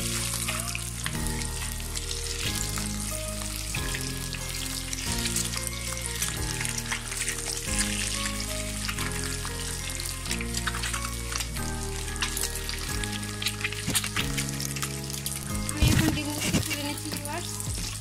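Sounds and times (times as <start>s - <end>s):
background music: 0.0s - 18.0s
eggs sizzling in hot oil: 0.0s - 18.0s.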